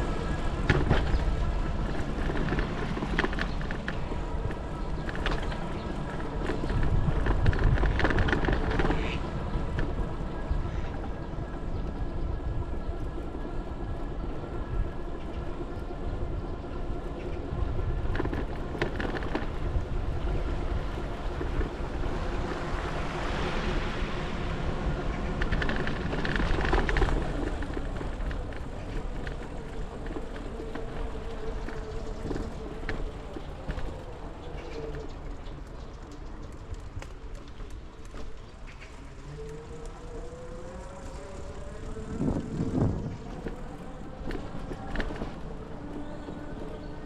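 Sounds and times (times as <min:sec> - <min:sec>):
bicycle rumbling on path: 0:00.0 - 0:47.0
wind buffeting microphone: 0:00.0 - 0:47.0.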